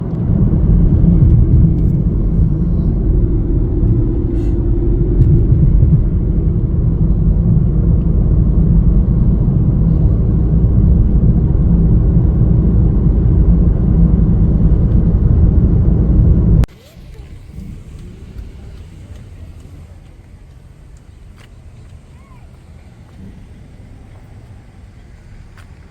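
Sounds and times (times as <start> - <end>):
car driving rumble: 0.0 - 25.9.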